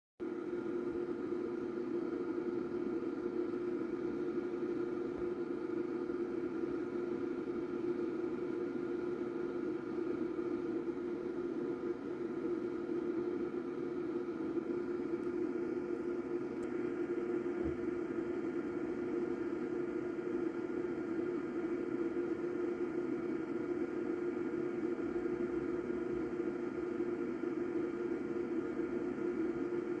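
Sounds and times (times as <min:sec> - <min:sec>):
amplifier cooling fan humming: 0:00.2 - 0:30.0.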